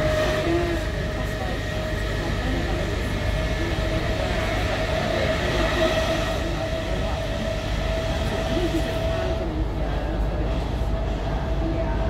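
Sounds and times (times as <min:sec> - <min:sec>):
constant humming tone: 0:00.0 - 0:12.0
train rumbling inside carriage: 0:00.0 - 0:12.0.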